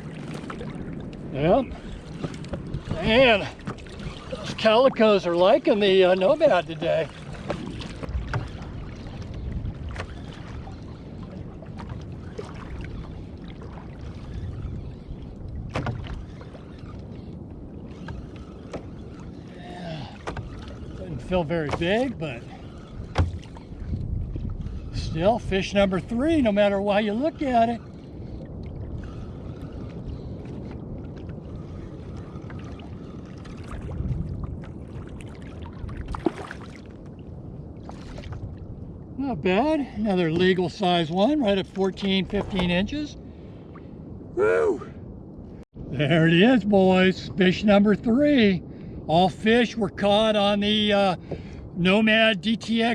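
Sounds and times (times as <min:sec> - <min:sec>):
water sloshing against hull: 0:00.0 - 0:44.3
wind rumble on microphone: 0:00.0 - 0:52.9.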